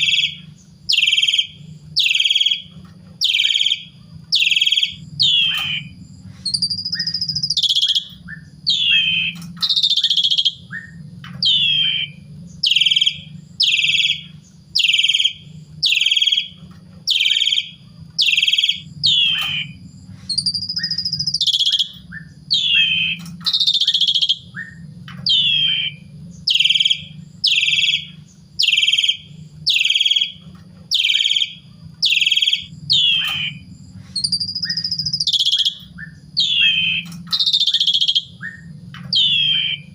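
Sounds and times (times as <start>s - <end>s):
starling singing harsh notes: 0.0s - 39.9s.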